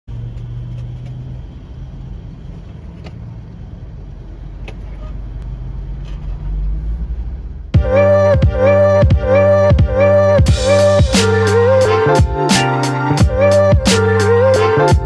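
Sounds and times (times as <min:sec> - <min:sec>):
engine hum and rumble: 0:00.1 - 0:15.0
vehicles passing: 0:00.1 - 0:15.0.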